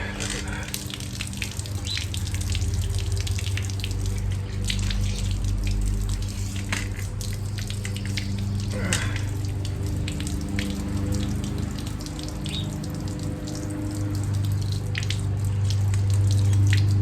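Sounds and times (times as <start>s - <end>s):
low mechanical hum: 0.0s - 17.0s
small water splashes: 0.0s - 17.0s
water spraying and dripping: 0.0s - 17.0s.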